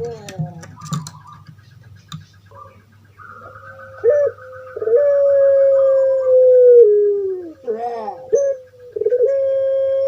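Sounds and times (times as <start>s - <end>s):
dove cooing: 0.0s - 10.0s.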